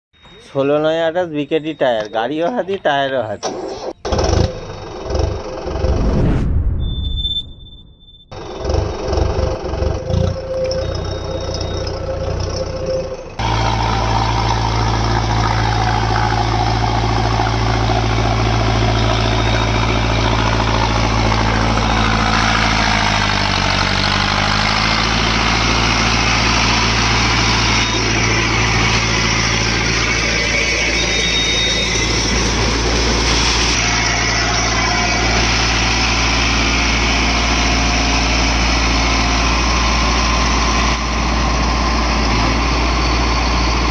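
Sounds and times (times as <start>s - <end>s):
tractor diesel engine running: 0.2s - 6.1s, 8.0s - 43.9s.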